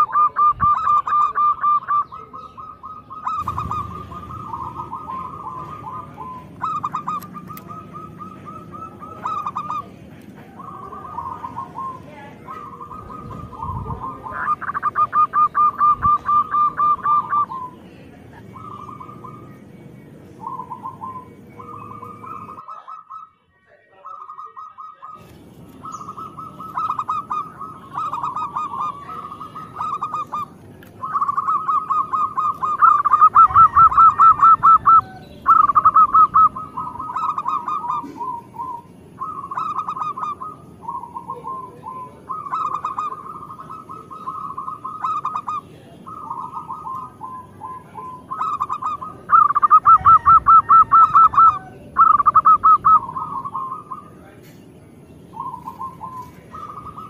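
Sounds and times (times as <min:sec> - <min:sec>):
dove trilled cooing: 0:00.0 - 0:23.4, 0:24.0 - 0:57.0.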